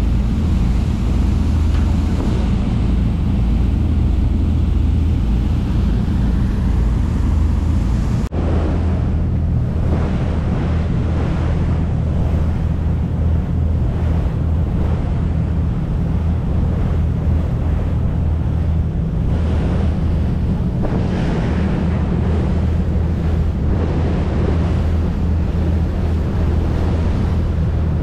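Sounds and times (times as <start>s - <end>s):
boat engine droning: 0.0s - 28.0s
water rushing from hull: 0.0s - 28.0s
wind buffeting microphone: 0.0s - 28.0s.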